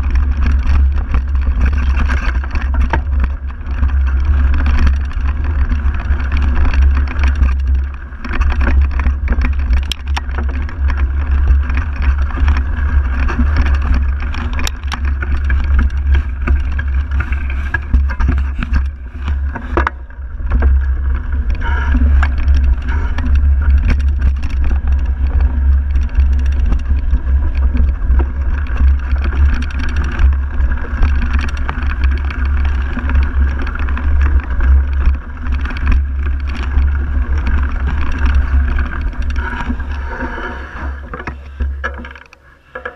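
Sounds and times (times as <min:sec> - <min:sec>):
bike rattling over bumps: 0:00.0 - 0:42.9
bike tyre noise: 0:00.0 - 0:42.9
wind rumble on microphone: 0:00.0 - 0:42.9.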